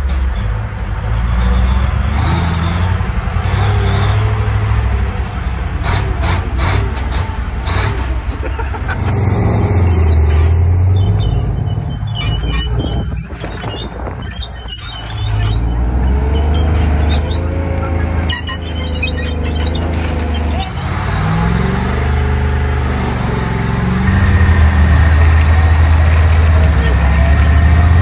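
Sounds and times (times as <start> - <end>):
heavy vehicle engine droning: 0.0 - 28.0.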